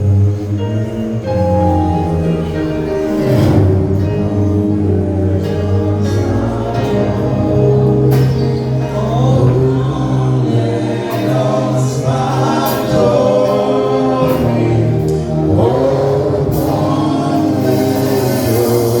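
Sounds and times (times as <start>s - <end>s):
choir singing gospel music: 0.0s - 19.0s
steady bass: 0.0s - 19.0s.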